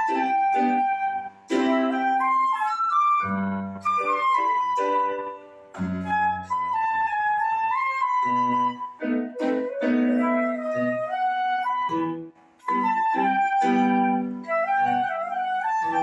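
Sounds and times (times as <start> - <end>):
flute melody: 0.0 - 16.0
piano chords: 0.0 - 16.0.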